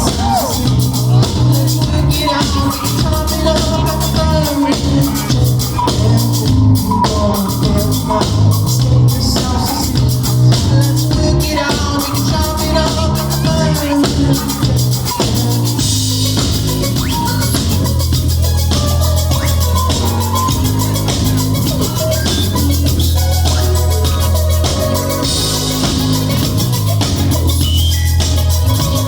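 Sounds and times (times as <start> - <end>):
drum-kit beat: 0.0 - 29.0
live band playing: 0.0 - 29.0.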